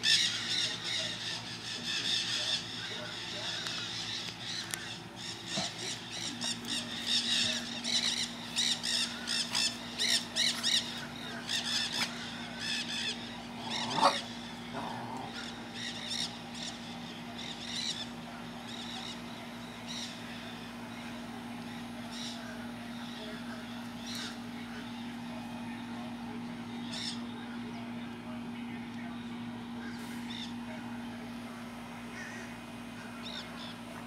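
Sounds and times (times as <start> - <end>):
parrots squawking: 0.0 - 21.1, 21.8 - 25.1, 26.7 - 27.4, 29.8 - 30.6, 32.0 - 33.9
steady low hum: 0.0 - 34.0.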